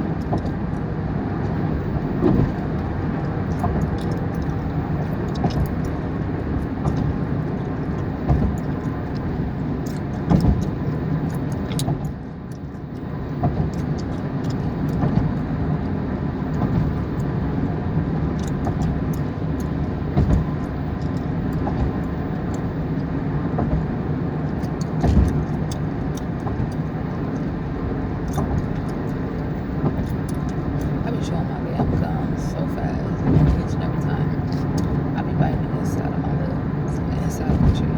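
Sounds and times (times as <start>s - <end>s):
car cabin rumble: 0.0s - 37.9s.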